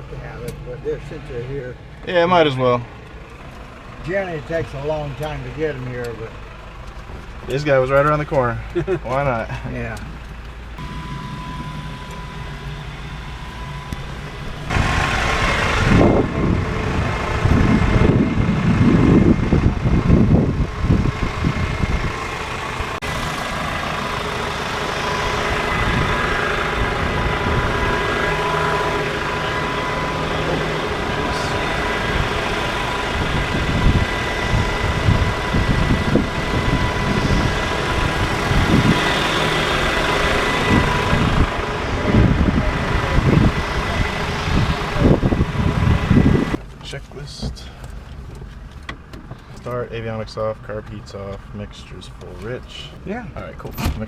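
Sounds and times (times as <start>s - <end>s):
truck engine idling: 0.0s - 53.6s.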